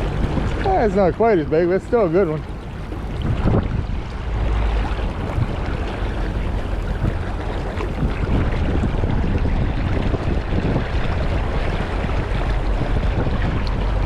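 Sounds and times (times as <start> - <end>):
fast river current rushing: 0.0 - 14.0
wind rumble on microphone: 0.0 - 14.0.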